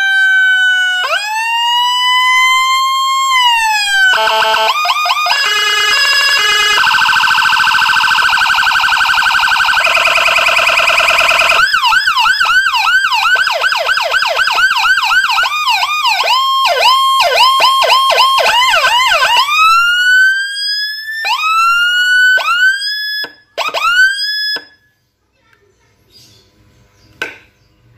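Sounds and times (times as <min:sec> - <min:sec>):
electronic siren through loudspeaker: 0:00.0 - 0:24.8.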